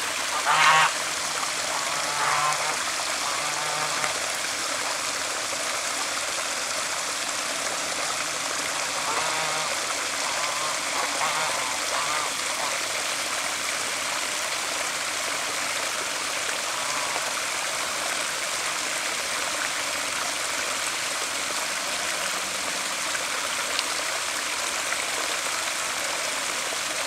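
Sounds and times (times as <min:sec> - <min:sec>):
water rushing through a spillway: 0:00.0 - 0:27.0.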